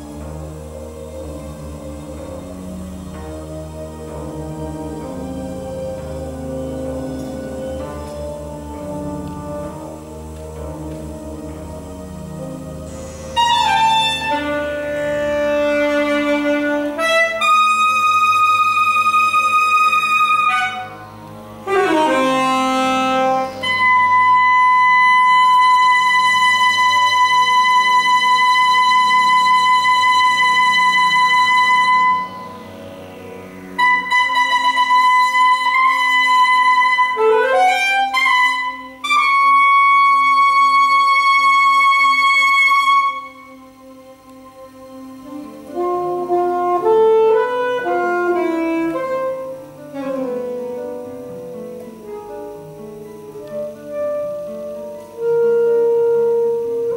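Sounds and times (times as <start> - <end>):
solo saxophone playing: 0.0 - 56.9.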